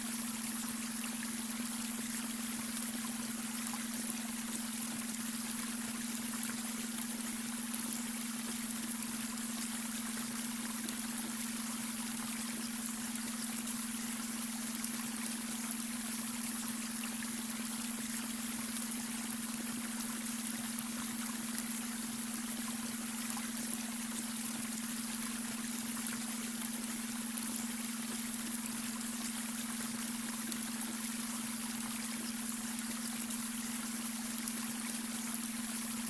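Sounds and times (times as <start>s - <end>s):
brook water trickling: 0.0s - 36.0s.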